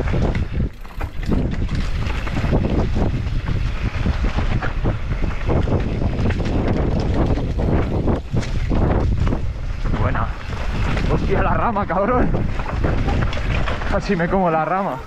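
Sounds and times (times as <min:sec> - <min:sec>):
bike rattling knocks: 0:00.0 - 0:15.0
low rumble of bike: 0:00.0 - 0:15.0
wind buffeting microphone: 0:00.0 - 0:15.0.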